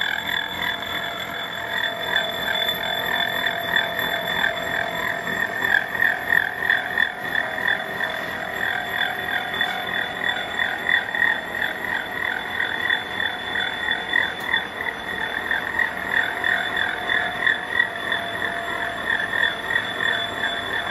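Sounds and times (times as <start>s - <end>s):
milling machine high tone: 0.0s - 20.9s.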